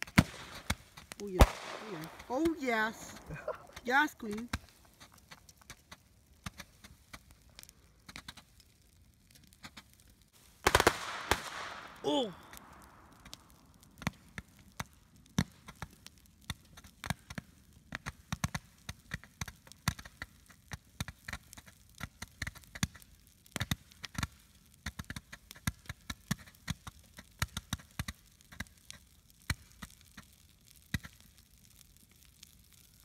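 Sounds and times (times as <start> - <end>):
firework pops and crackles: 0.0 - 33.0.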